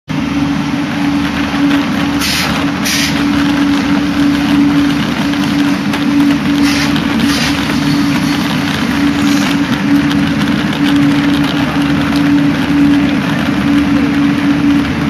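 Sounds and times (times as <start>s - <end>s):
idling trains low hum: 0.1s - 15.0s.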